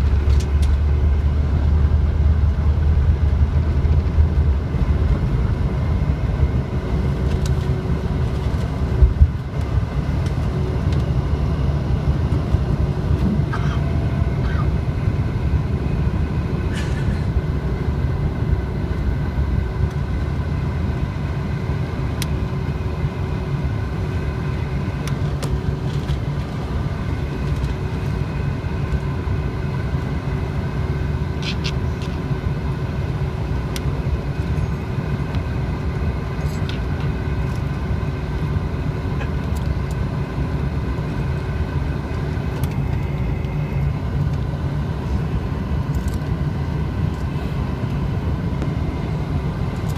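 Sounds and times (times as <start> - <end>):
jet engine cabin rumble and whine: 0.0 - 49.9.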